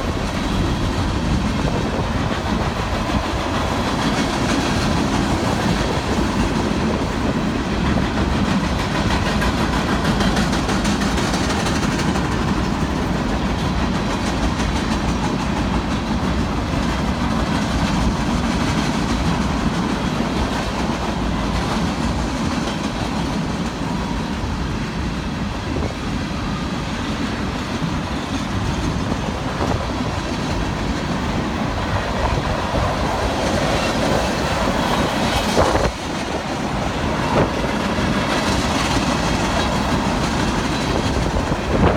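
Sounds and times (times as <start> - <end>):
train wheels clattering over rails: 0.0 - 41.9.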